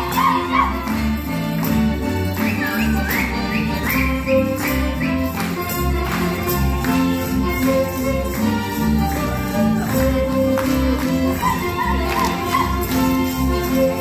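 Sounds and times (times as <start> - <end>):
folk band playing dance tune: 0.0 - 14.0.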